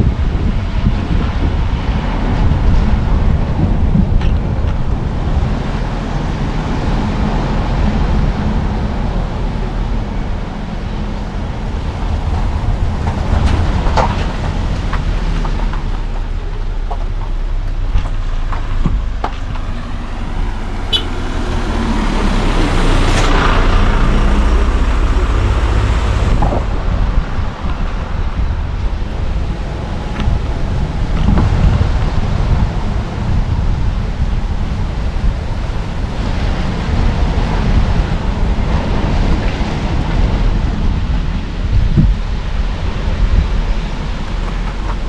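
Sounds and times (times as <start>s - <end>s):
car engine and tyre rumble: 0.0s - 45.0s.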